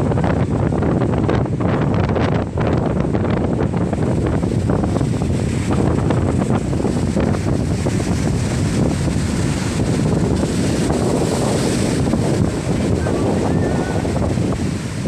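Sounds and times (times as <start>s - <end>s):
storm wind buffeting microphone: 0.0s - 15.0s
sea surf: 2.6s - 15.0s.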